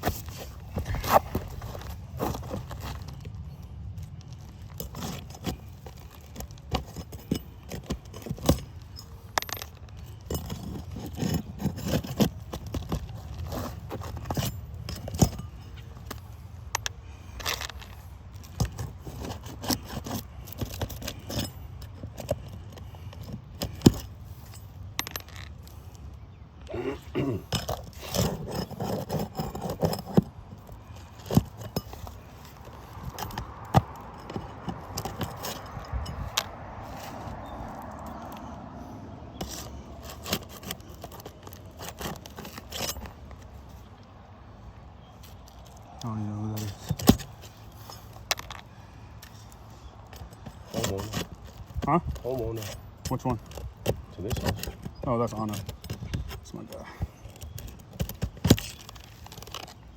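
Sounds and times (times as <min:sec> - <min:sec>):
tools tapping and scraping shingles: 0:00.0 - 0:59.9.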